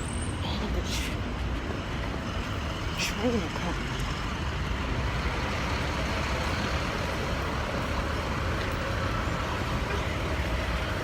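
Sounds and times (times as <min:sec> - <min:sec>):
heavy vehicle traffic rumble: 0:00.0 - 0:11.0.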